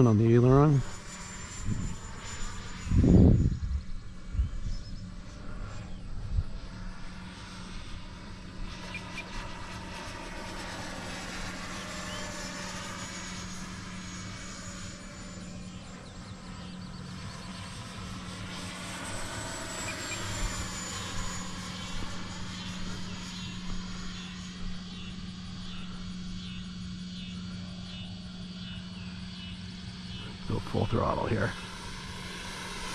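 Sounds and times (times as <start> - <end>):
electric ducted fan whining: 0.0 - 32.9
steady low hum: 0.0 - 32.9.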